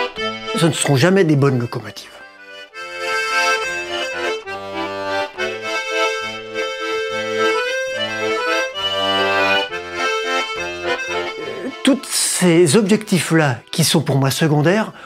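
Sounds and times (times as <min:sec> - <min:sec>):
button accordion playing a tune: 0:00.0 - 0:15.0.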